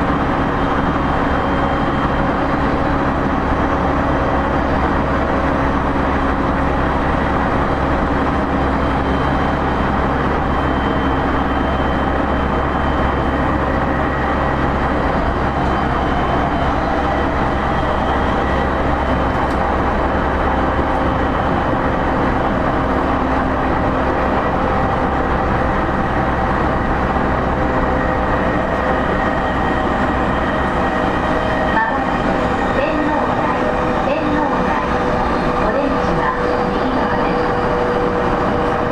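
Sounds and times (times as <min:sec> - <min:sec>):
electric train running: 0:00.0 - 0:38.9.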